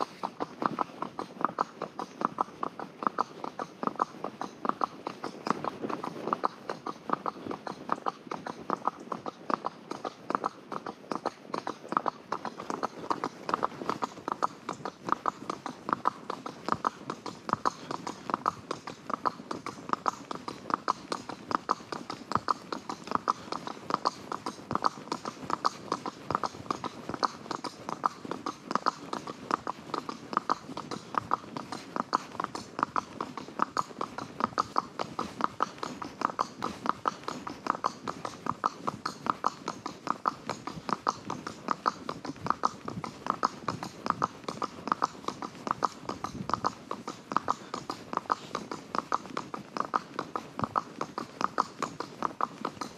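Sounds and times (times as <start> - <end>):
horse hooves clip-clopping: 0.0 - 52.9.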